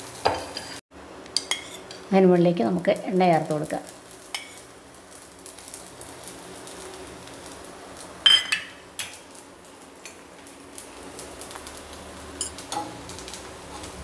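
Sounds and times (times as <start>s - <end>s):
faint griddle sizzle: 0.0s - 14.0s.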